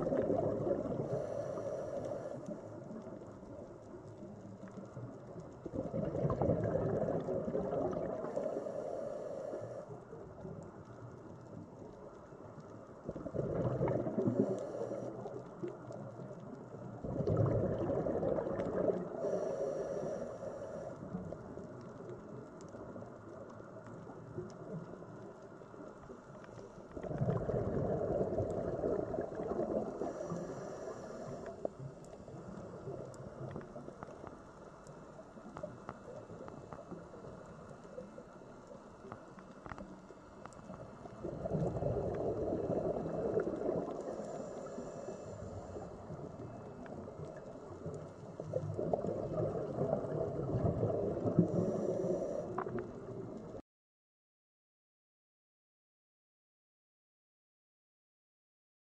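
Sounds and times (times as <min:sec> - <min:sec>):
underwater bubbles gurgling: 0:00.0 - 0:53.6
faint clicks: 0:00.1 - 0:53.6.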